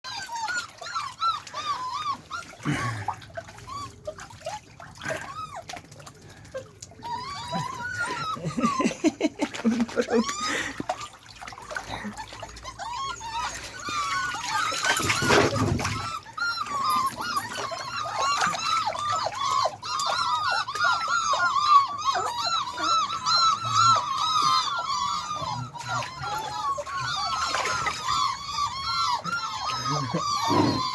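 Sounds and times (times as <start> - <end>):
puppies whining and squealing: 0.0 - 30.9.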